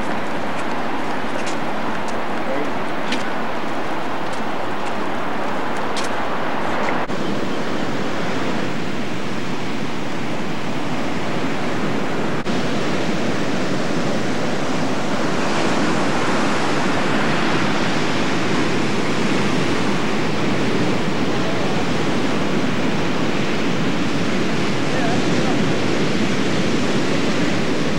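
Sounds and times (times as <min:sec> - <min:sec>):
ocean waves breaking: 0:00.0 - 0:27.9.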